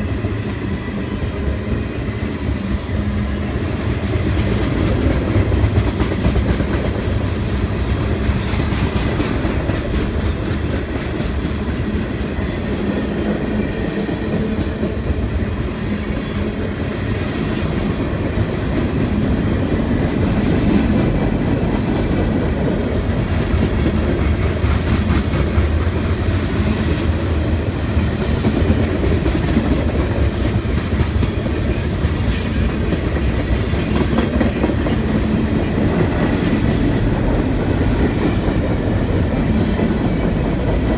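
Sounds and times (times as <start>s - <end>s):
train wheels clattering over rails: 0.0s - 40.9s.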